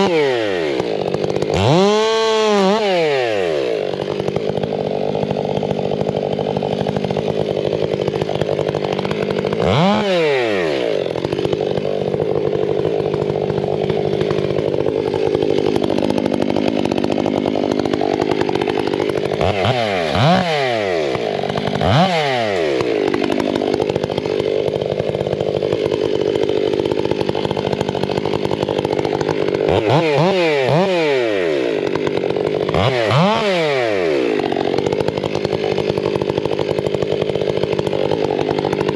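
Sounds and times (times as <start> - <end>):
chainsaw running at high revs: 0.0 - 38.9.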